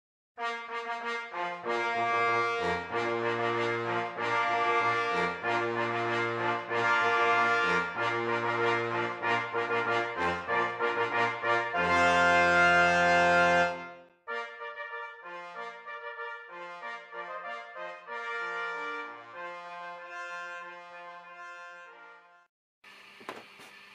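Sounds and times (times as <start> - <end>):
brass-led instrumental music: 0.4 - 22.5.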